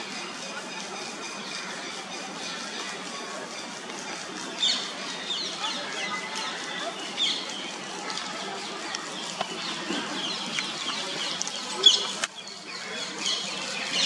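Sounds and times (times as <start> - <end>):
outdoor background noise: 0.0 - 14.0
small birds chirping: 0.0 - 14.0.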